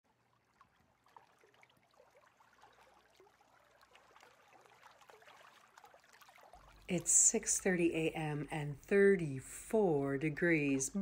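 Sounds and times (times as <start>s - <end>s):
water trickling and lapping: 0.0s - 11.0s.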